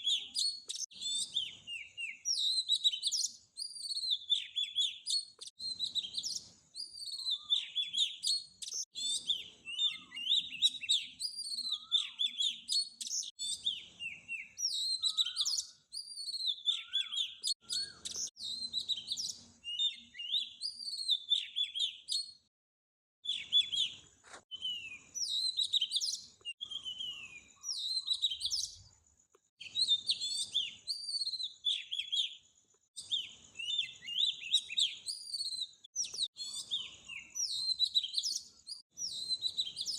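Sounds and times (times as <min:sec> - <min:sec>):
small birds chirping: 0:00.0 - 0:22.6, 0:23.2 - 0:39.9.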